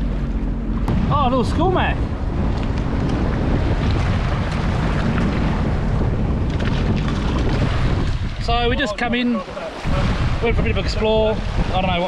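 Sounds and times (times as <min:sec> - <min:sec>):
jet ski engine hum: 0:00.0 - 0:12.0
wind buffeting microphone: 0:00.0 - 0:12.0.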